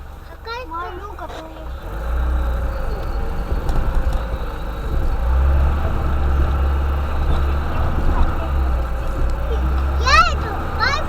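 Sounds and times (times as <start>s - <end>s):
van engine drone inside cabin: 0.0s - 11.0s.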